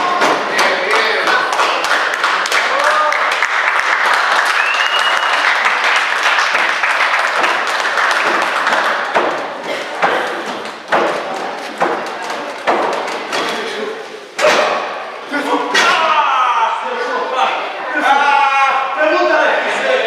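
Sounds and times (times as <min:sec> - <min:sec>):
crowd shouting and cheering: 0:00.0 - 0:20.0.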